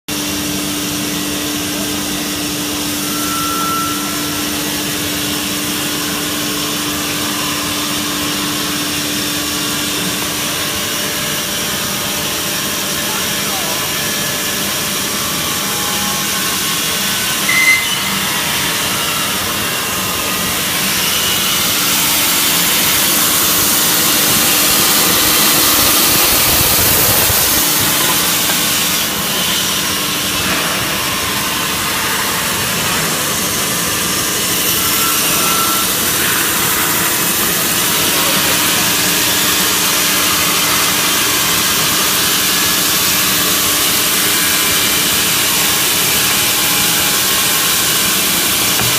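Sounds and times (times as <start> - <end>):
band saw running: 0.1 - 48.9.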